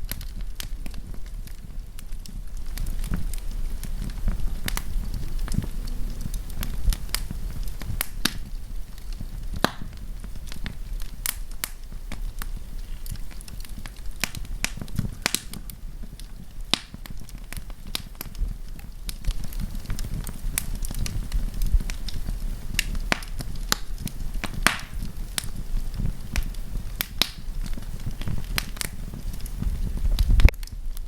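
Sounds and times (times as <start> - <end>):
campfire crackling and popping: 0.0 - 31.0
low rumble of flames: 0.0 - 31.0.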